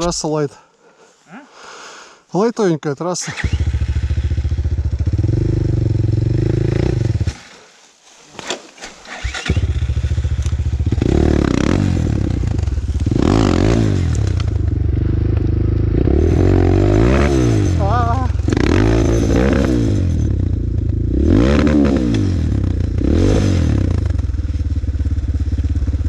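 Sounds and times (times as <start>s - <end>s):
motorcycle engine revving: 3.2s - 7.5s, 9.0s - 26.0s.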